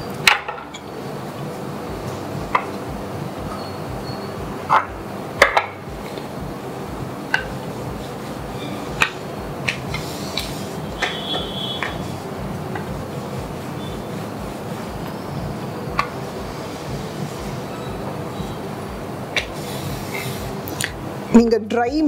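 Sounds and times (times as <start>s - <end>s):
rolling pin rolling dough: 0.0s - 20.6s.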